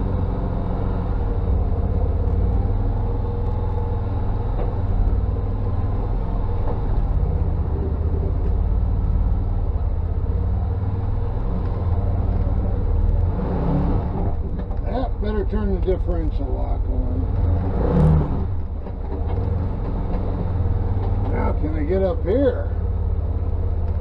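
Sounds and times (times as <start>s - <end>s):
utility vehicle engine droning: 0.0s - 24.0s.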